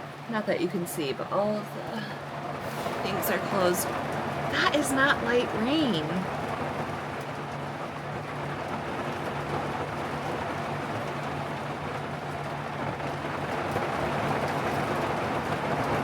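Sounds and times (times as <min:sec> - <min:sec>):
heavy rain on tent: 0:00.0 - 0:16.0.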